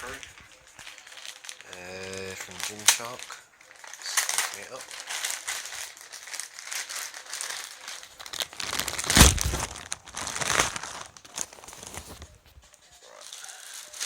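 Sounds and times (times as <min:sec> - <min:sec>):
parcel packaging crinkling: 0:00.0 - 0:14.0.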